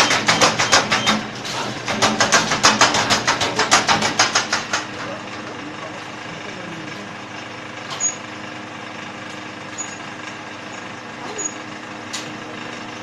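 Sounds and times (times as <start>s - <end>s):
welding machine humming: 0.0s - 13.0s.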